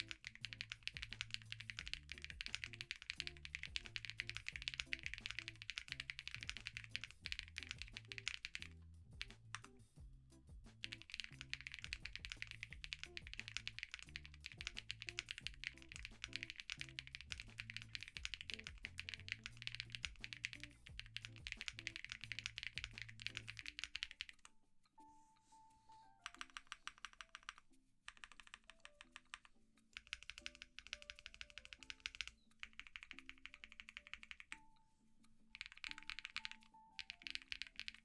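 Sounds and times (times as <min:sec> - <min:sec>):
mechanical keyboard typing: 0:00.0 - 0:09.8, 0:10.6 - 0:24.6, 0:26.2 - 0:34.7, 0:35.5 - 0:38.0
soft background music: 0:00.0 - 0:38.0.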